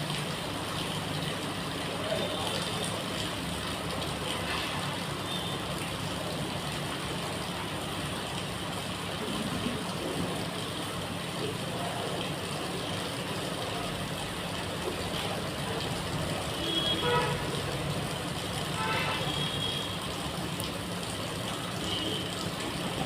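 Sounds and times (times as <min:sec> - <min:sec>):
traffic engines humming: 0:00.3 - 0:23.0.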